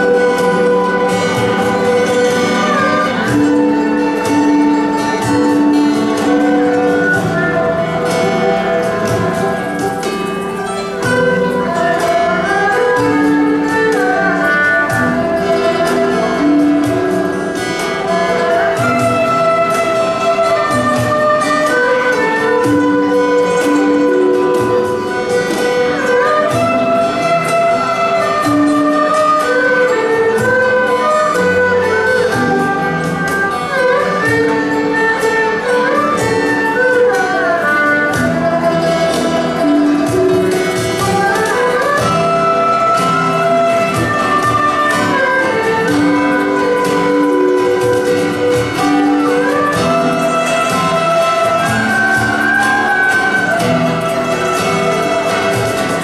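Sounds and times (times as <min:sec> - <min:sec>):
acoustic guitar: 0:00.0 - 0:56.0
bowed erhu melody: 0:00.0 - 0:56.0
plucked zither: 0:00.0 - 0:56.0.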